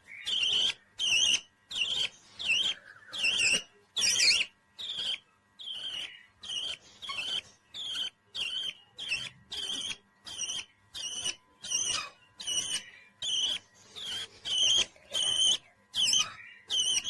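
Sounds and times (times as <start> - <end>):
parrot chirping: 0.0 - 17.0.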